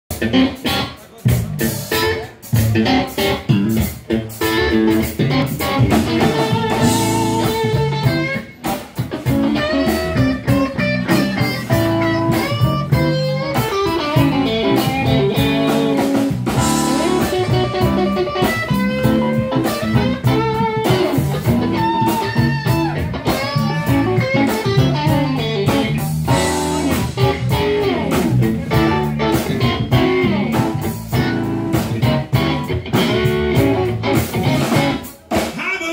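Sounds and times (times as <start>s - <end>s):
lead guitar bent-note phrases: 0.1s - 35.1s
live blues band: 0.1s - 35.9s.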